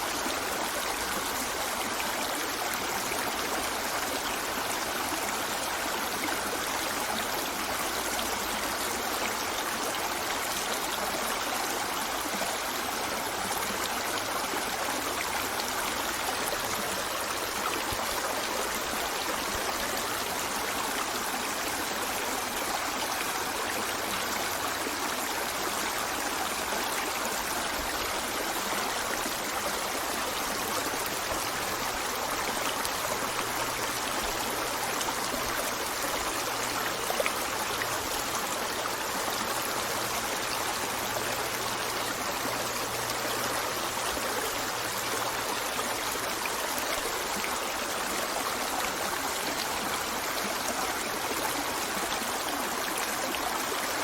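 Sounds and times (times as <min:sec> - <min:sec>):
river flowing over stones: 0:00.0 - 0:54.0.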